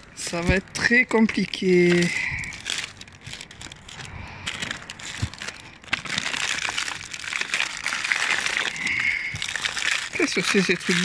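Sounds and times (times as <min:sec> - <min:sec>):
plastic bags crinkling: 0:00.0 - 0:11.0
rotting fruit squishing: 0:00.0 - 0:11.0.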